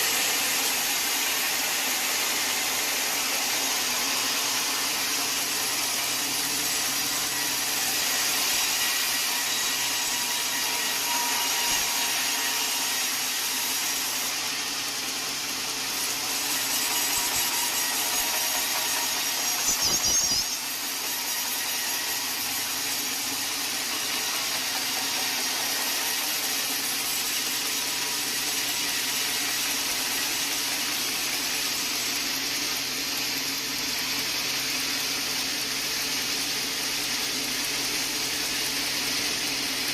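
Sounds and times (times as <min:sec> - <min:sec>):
saw cutting log: 0:00.0 - 0:39.9.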